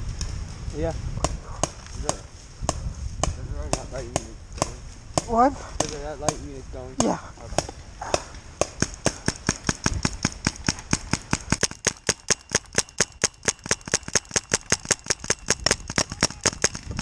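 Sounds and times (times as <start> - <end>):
paintball marker firing: 1.6 - 6.4, 7.0 - 17.0.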